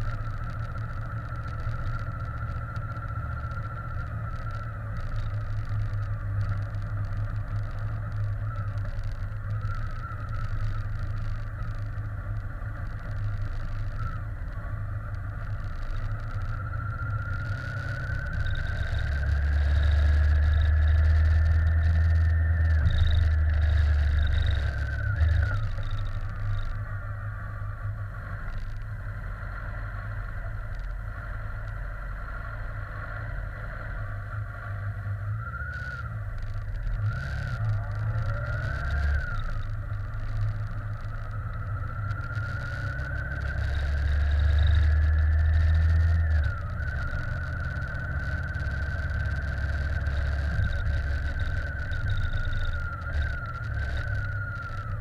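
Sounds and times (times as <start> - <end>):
faint clicks: 0.0 - 29.1, 30.2 - 31.9, 34.3 - 55.0
bike running rumble: 0.0 - 55.0
wavering whine: 0.0 - 55.0
wind and road noise: 0.0 - 55.0.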